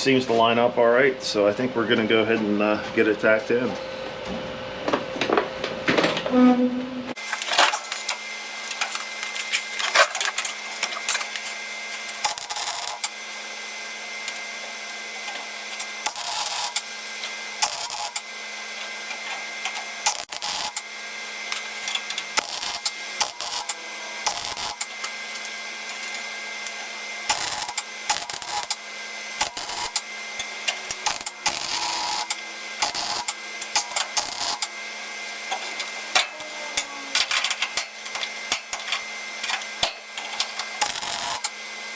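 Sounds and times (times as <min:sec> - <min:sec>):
steady hum: 0:06.4 - 0:41.9
welding arc crackling: 0:07.2 - 0:41.9.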